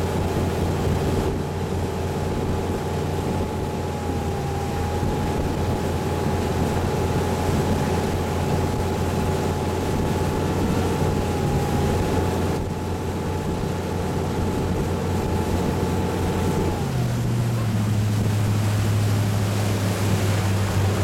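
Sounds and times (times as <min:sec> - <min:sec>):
boat engine running: 0:00.0 - 0:21.0
water churning: 0:00.0 - 0:21.0
wind on microphone: 0:00.0 - 0:21.0.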